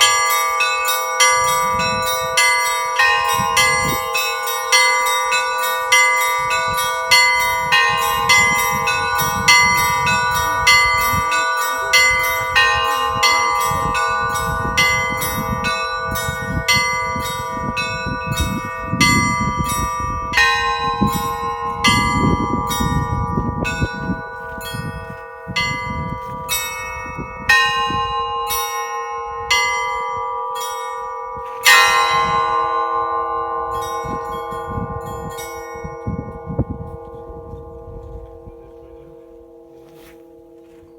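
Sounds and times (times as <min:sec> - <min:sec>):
large bells sustained tones: 0:00.0 - 0:40.9
small church bells rapid strokes: 0:00.0 - 0:40.9.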